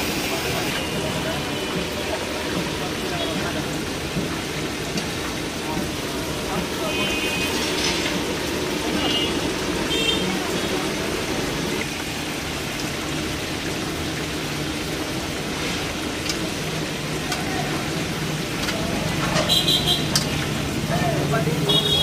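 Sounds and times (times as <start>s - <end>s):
food deep-frying in hot oil: 0.0s - 22.0s.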